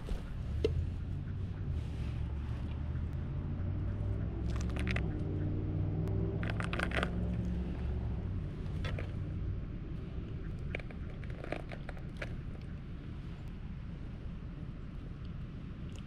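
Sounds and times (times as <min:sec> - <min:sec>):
low engine-like rumble: 0:00.0 - 0:16.0.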